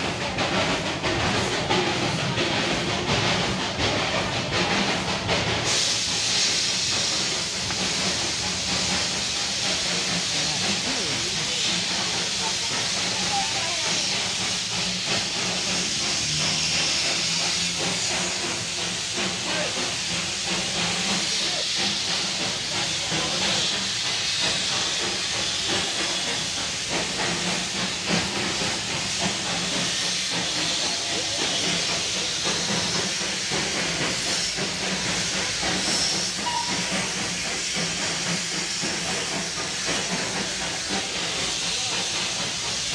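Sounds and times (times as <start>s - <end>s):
steam hissing: 0.0s - 42.9s.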